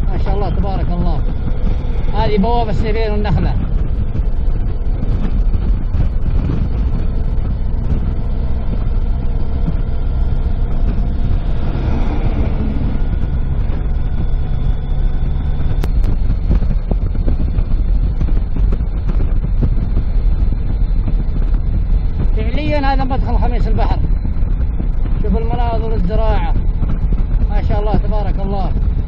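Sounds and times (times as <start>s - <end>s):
car engine and tyre rumble: 0.0s - 29.0s
rush of passing noise: 0.0s - 29.0s.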